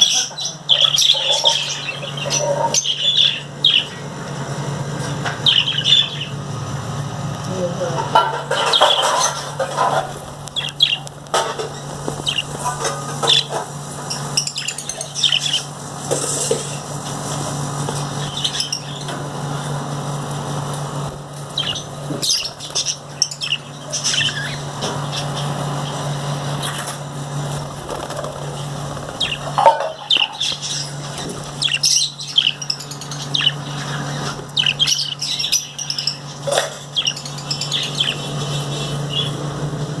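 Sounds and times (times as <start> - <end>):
small birds chirping: 0.0 - 39.8
steady low hum: 0.0 - 40.0.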